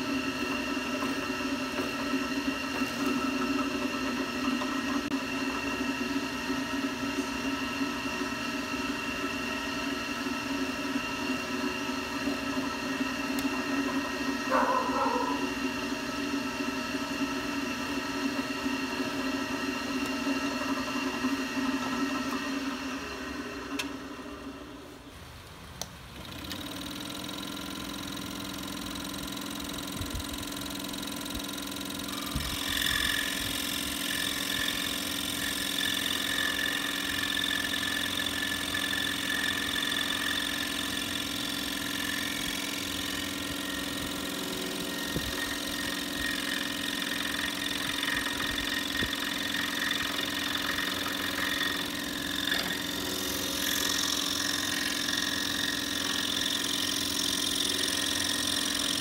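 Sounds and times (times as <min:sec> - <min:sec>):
scroll saw cutting wood: 0:00.0 - 0:25.0, 0:26.2 - 0:59.0.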